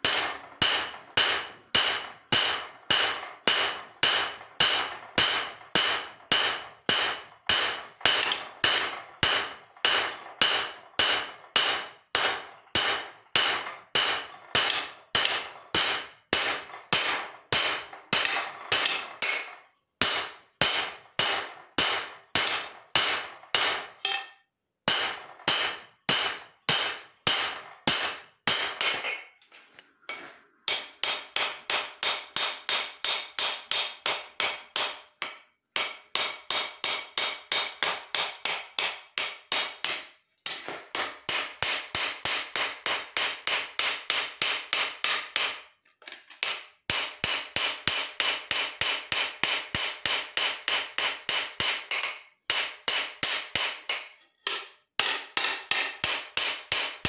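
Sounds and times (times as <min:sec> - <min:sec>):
hammer clanging on anvil: 0:00.0 - 0:29.4, 0:30.1 - 0:45.6, 0:46.4 - 0:57.0.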